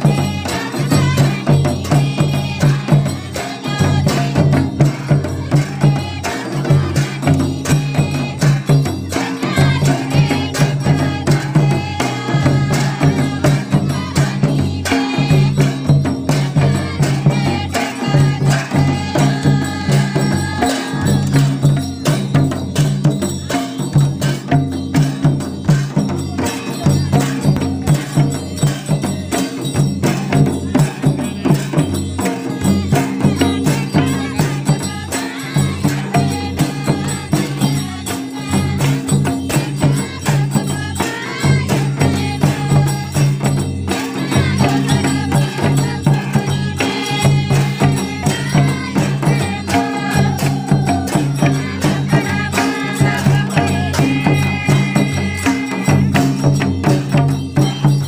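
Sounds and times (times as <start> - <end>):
barrel drum and kettle drums: 0.0 - 58.0
group singing: 0.0 - 58.0.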